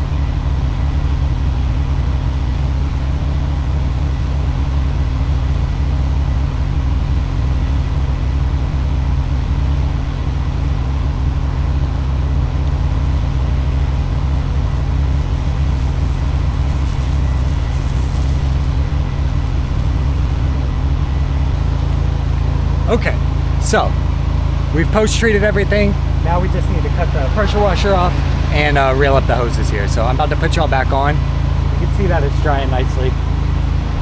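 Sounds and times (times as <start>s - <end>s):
faint hiss: 2.3s - 11.9s, 12.6s - 34.0s
pressure washer engine running: 2.3s - 34.0s.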